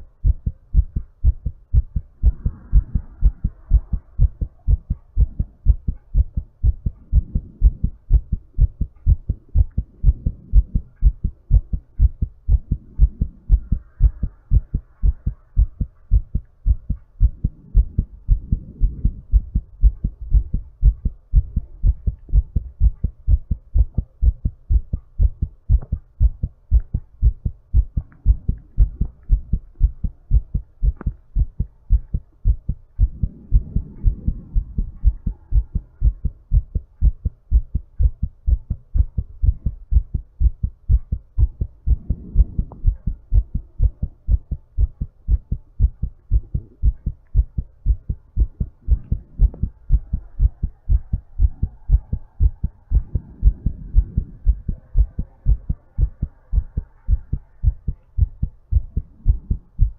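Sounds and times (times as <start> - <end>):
fast heartbeat thumps: 0.0 - 59.9.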